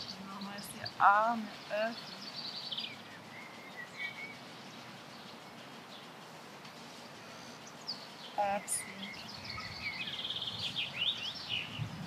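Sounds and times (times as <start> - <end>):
birds chirping and whistling: 0.0 - 6.1, 7.0 - 12.0
background hiss: 0.0 - 12.0.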